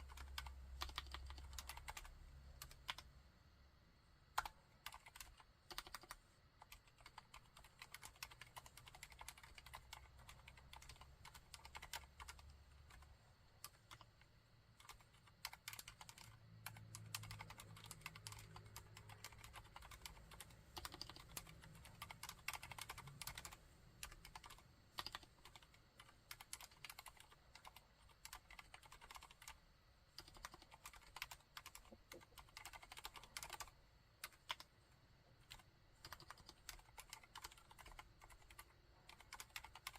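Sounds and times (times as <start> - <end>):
quiet keyboard typing: 0.0 - 3.2, 4.0 - 39.9.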